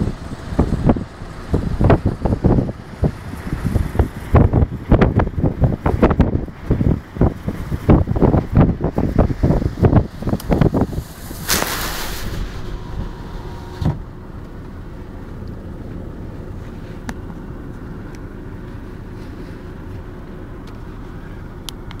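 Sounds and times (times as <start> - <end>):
storm wind buffeting car: 0.0 - 21.6.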